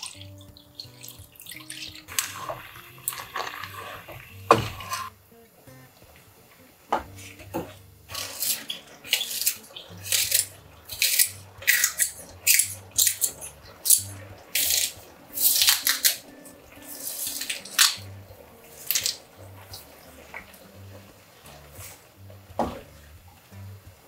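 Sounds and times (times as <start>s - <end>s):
food sizzling in frying pan: 0.0s - 23.7s
quiet background music: 0.0s - 24.0s.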